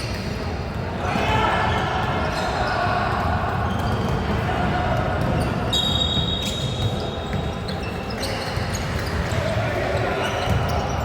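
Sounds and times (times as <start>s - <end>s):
players' voices: 0.1s - 11.0s.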